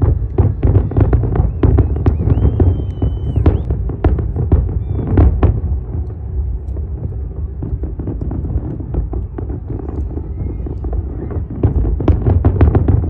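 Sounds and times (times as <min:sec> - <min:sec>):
distant fireworks rumble: 0:00.0 - 0:13.0
sharp firework cracks: 0:00.0 - 0:13.0.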